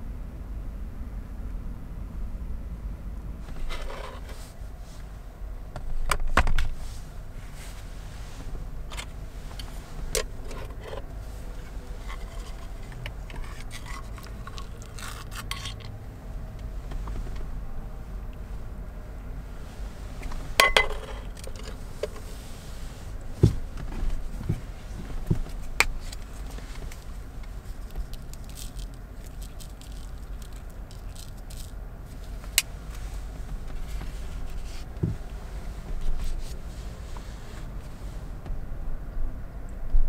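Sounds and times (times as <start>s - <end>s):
car low rumble: 0.0s - 40.0s.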